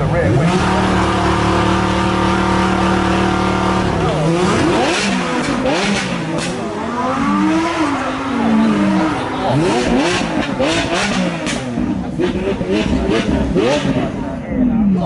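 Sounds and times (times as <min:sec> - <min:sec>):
sports car engine revving and accelerating: 0:00.0 - 0:15.0.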